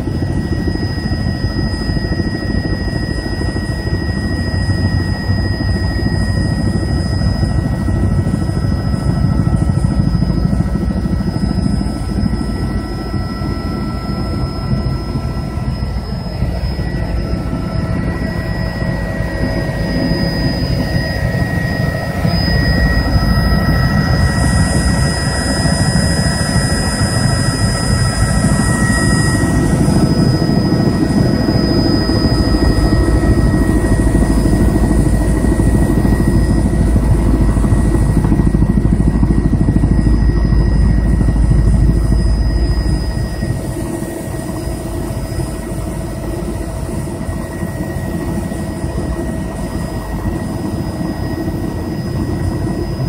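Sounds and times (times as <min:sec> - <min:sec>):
helicopter engine and rotor rumble: 0:00.0 - 0:53.0
high-pitched whine: 0:00.0 - 0:53.0.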